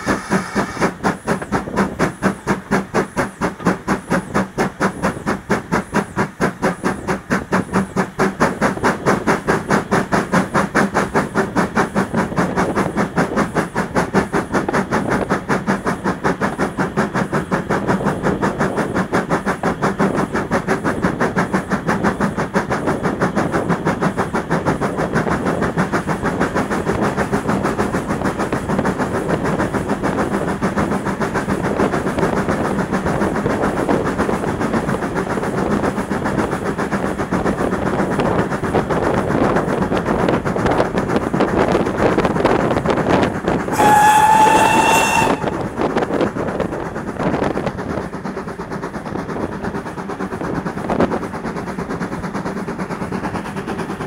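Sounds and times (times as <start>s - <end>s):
steam locomotive exhaust chuffs: 0.0s - 54.0s
wheels clattering on rails: 0.0s - 54.0s.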